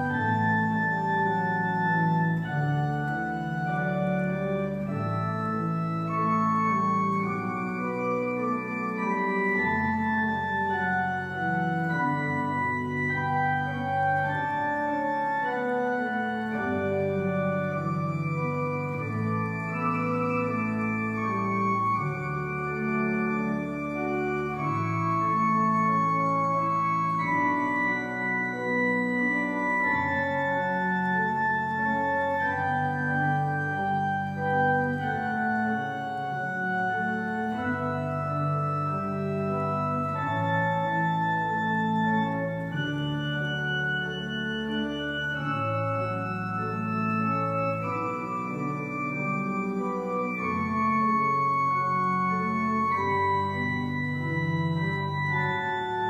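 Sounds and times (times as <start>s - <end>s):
organ music: 0.0s - 56.0s.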